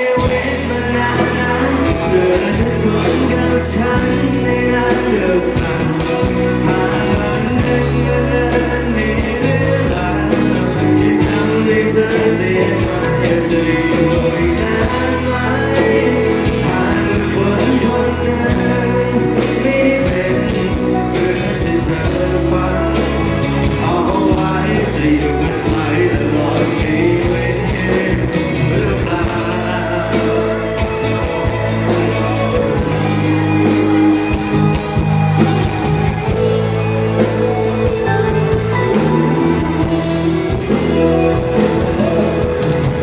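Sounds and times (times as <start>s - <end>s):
men singing: 0.0s - 36.5s
bass guitar: 0.0s - 43.0s
drums: 0.0s - 43.0s
electric guitars: 0.0s - 43.0s.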